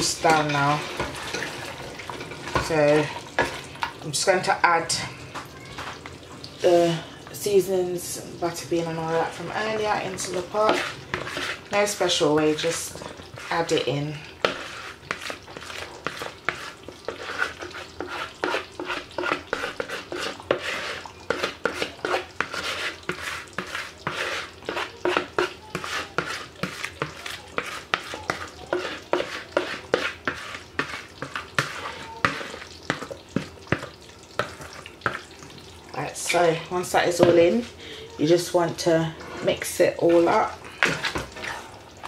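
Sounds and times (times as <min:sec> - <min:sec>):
pot sizzling and popping: 0:00.0 - 0:42.0
stirring and scraping in pot: 0:00.0 - 0:42.0.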